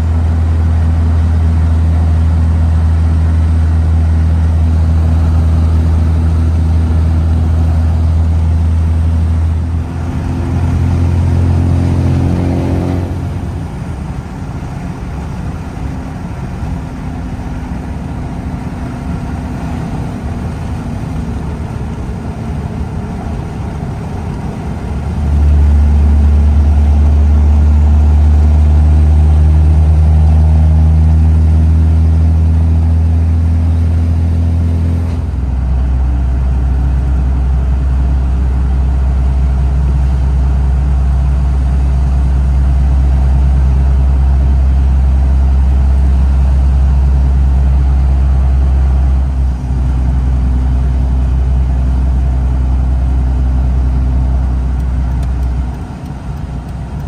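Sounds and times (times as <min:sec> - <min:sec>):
diesel pickup engine droning: 0:00.0 - 0:57.0.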